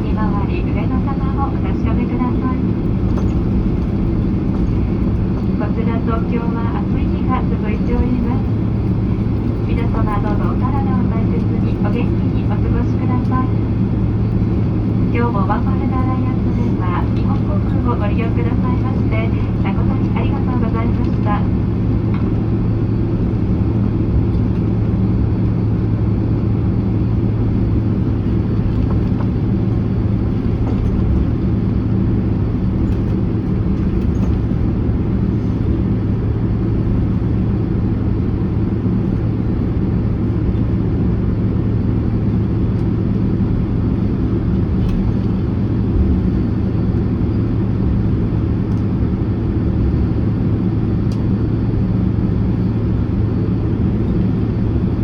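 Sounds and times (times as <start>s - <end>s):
jet engines idling rumble: 0.0s - 55.0s.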